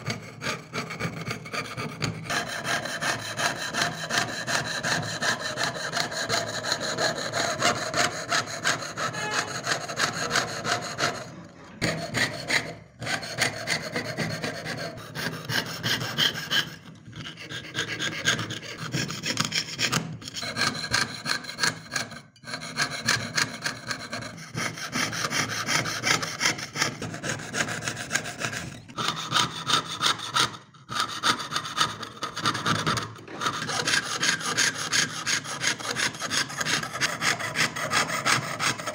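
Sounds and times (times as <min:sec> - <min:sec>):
saw cutting thin metal: 0:00.0 - 0:38.9.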